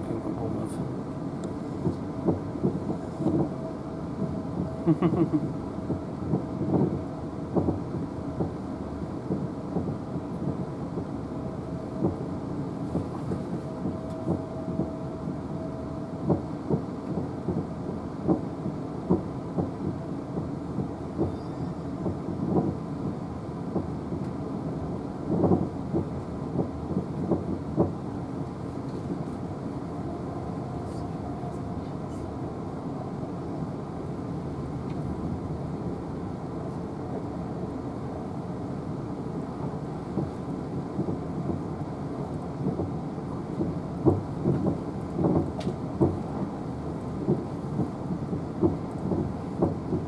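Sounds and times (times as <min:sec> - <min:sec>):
train running rumble: 0:00.0 - 0:50.0.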